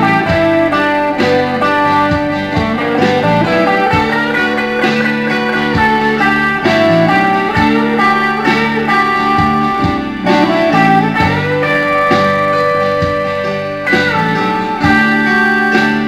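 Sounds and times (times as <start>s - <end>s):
band backing with bass: 0.0s - 16.0s
electric guitar ballad lead: 0.0s - 16.0s.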